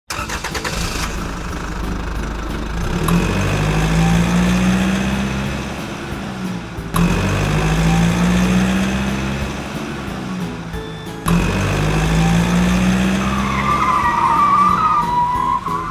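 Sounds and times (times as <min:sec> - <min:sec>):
vehicle engine revving: 0:00.1 - 0:15.9.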